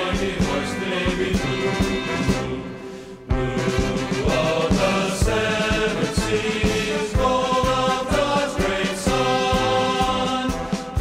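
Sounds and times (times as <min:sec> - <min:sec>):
steady drum beat: 0:00.0 - 0:02.7, 0:03.3 - 0:11.0.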